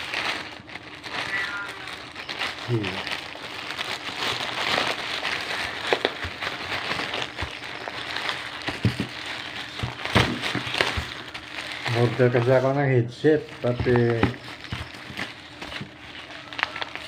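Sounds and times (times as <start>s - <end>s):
plastic pouch crinkling: 0.0s - 17.0s.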